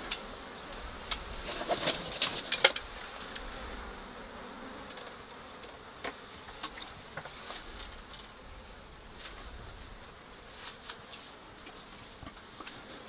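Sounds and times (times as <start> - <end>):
flies buzzing: 0.0 - 13.0.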